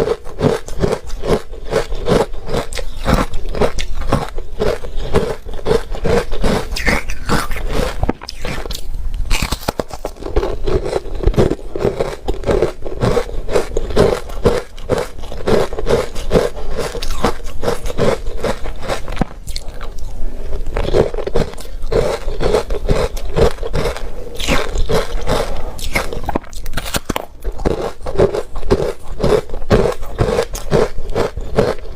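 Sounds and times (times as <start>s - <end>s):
ice being bitten and chewed: 0.0s - 31.9s.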